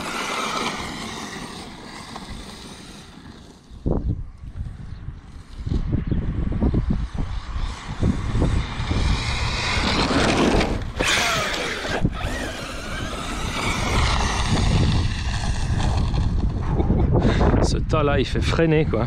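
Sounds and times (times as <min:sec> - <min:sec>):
rc truck motor whining: 0:00.0 - 0:06.0, 0:07.0 - 0:16.6.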